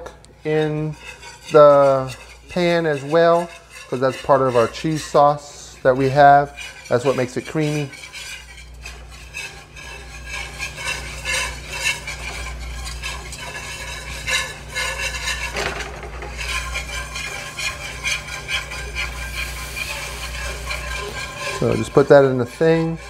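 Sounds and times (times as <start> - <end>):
whisk scraping in a skillet: 0.0 - 23.0.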